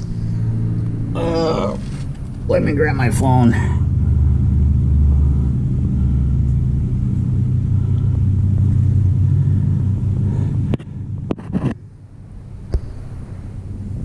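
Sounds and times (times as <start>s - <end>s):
loud low rumble: 0.0s - 14.0s.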